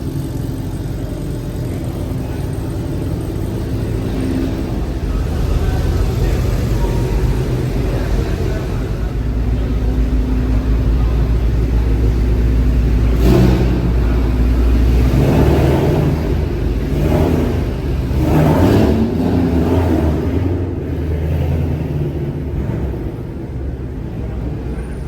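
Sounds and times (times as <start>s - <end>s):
car engine rumbling and revving: 0.0s - 25.0s.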